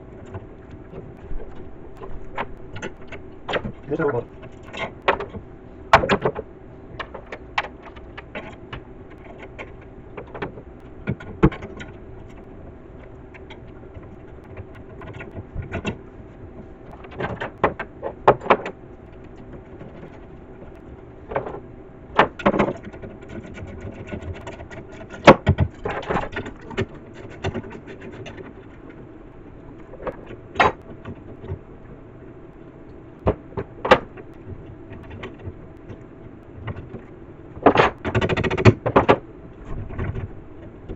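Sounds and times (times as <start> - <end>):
low hum: 0.0 - 38.1.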